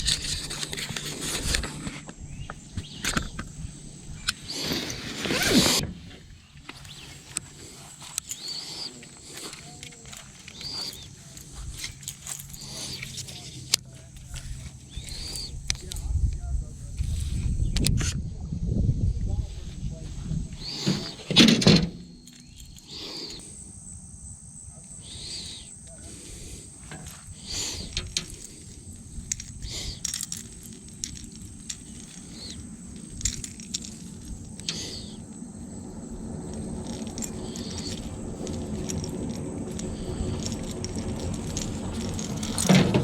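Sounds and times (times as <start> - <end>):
insects buzzing: 0.0 - 43.0.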